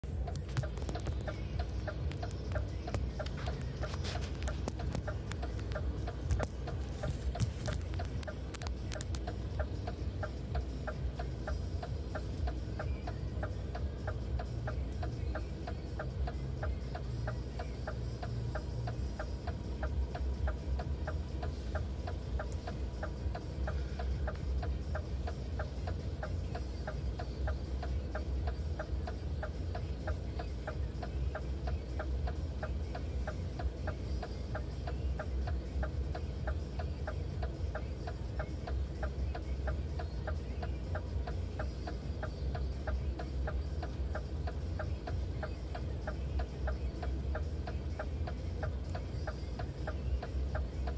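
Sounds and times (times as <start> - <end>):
engine idling rumble: 0.0 - 50.9
steady ticking: 0.0 - 50.9.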